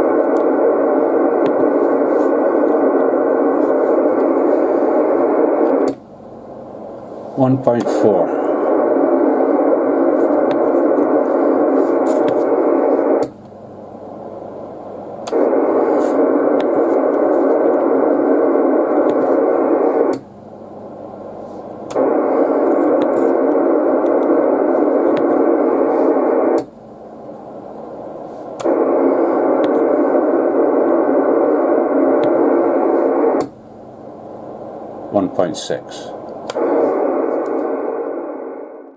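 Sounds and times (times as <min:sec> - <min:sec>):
radio static hiss: 0:00.0 - 0:38.9.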